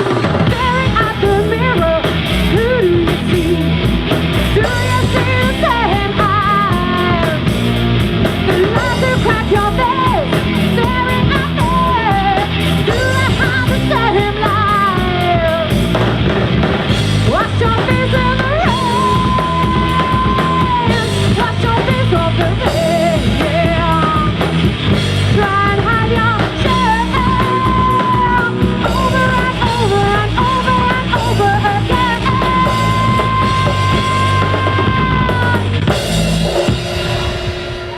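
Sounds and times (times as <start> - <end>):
bending lead guitar melody: 0.0 - 37.9
rock band playing: 0.0 - 37.9.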